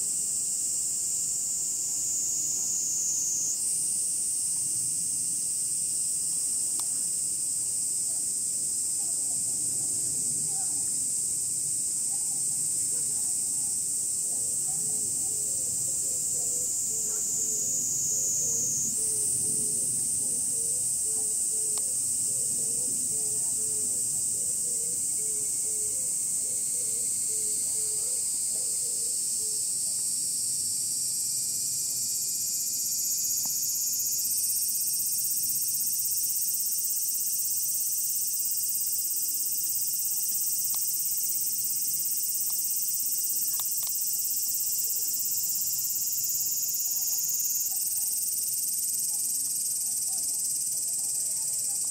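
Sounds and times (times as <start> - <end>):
cicadas shrilling: 0.0 - 9.6, 10.4 - 51.9.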